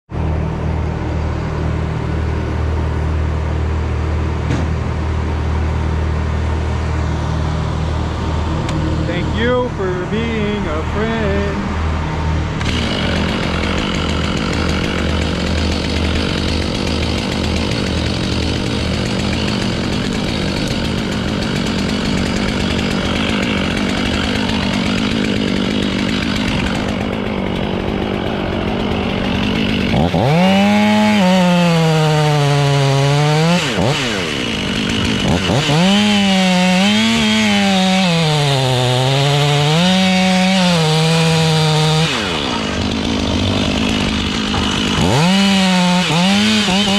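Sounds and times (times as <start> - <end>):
chainsaw running and bogging: 0.2 - 46.9.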